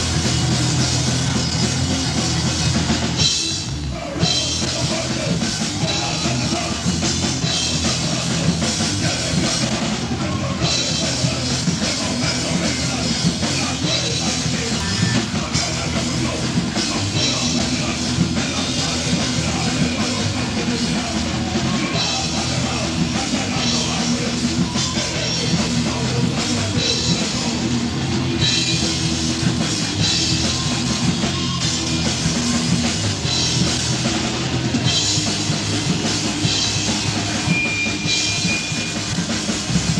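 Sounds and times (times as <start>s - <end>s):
drum kit with cymbals: 0.0s - 39.9s
electric guitar: 0.0s - 39.9s.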